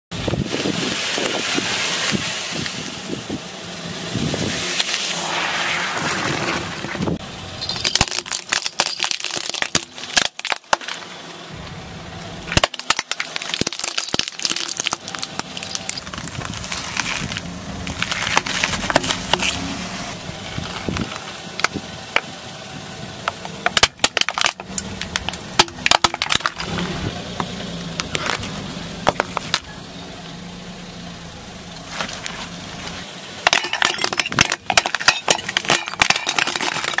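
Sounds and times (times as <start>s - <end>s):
car engine running low: 0.1s - 37.0s
foam crunching under tyre: 0.2s - 11.3s, 12.4s - 22.4s, 23.3s - 29.8s, 31.8s - 37.0s.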